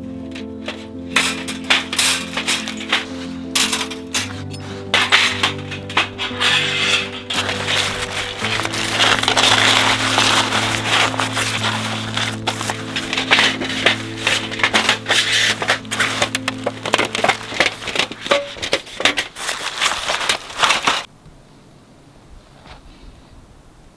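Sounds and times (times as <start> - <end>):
wood fire crackling and popping: 0.0 - 21.1.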